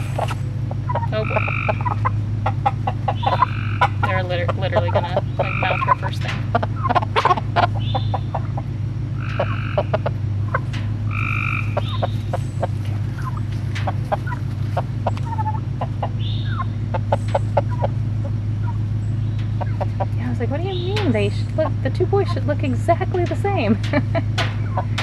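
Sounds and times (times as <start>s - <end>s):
chickens clucking and squawking: 0.0s - 25.0s
steady low hum: 0.0s - 25.0s.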